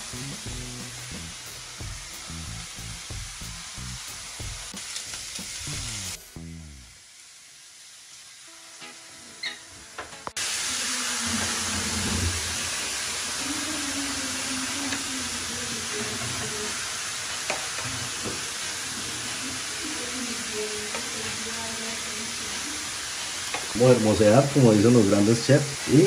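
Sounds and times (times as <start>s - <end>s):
food frying sizzle: 0.0s - 26.0s.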